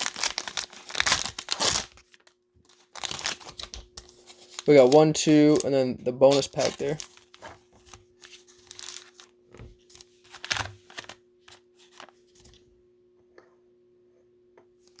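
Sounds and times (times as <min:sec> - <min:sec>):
plastic wrapper crinkling: 0:00.0 - 0:12.2
faint steady hum: 0:00.0 - 0:15.0.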